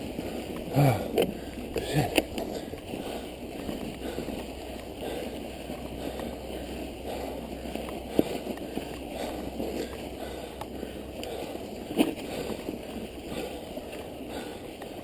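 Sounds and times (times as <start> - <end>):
bike tyres and drivetrain in snow: 0.0 - 15.0.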